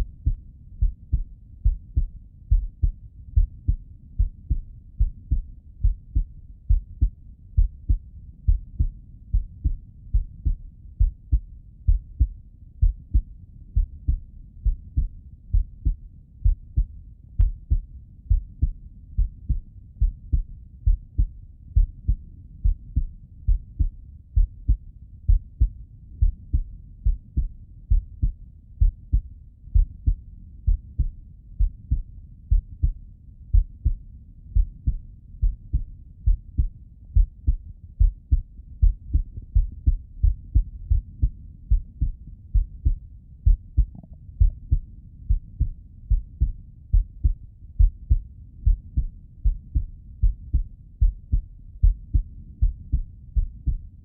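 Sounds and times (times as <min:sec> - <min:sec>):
heartbeat through stethoscope: 0:00.0 - 0:54.0.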